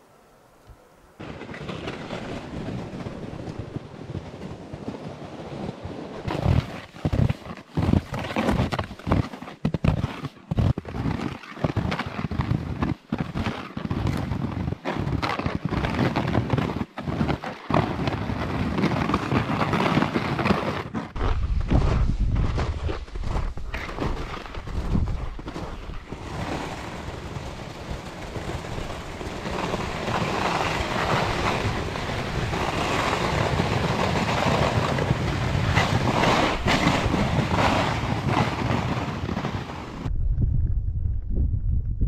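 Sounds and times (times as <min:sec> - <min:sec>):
skis scraping and crunching on snow: 0:01.2 - 0:40.1.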